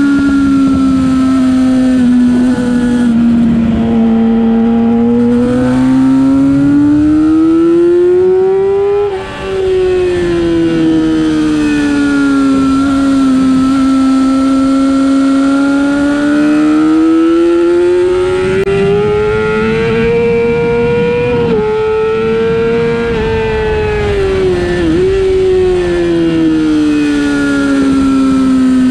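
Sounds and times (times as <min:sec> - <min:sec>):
motorcycle engine at speed: 0:00.0 - 0:28.9.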